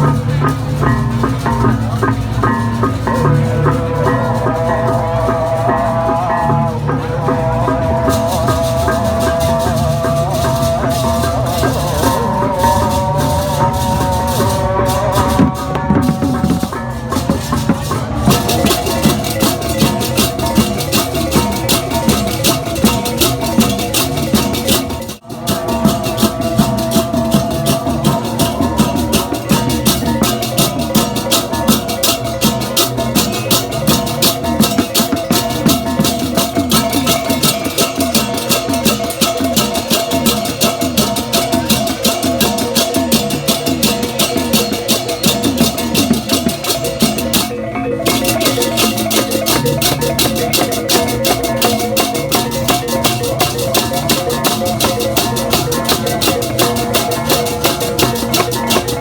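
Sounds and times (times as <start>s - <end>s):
drums: 0.0s - 59.0s
fast clashing cymbals: 0.0s - 59.0s
metallophone tones: 0.0s - 59.0s.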